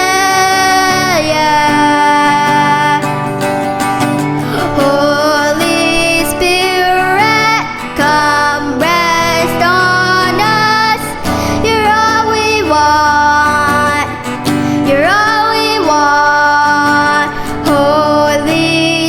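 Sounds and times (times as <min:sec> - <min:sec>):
instrumental accompaniment: 0:00.5 - 0:19.0.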